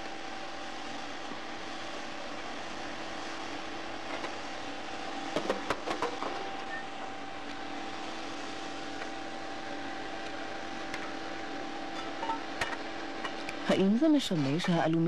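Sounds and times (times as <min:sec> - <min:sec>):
furnace hum and hiss: 0:00.0 - 0:15.0.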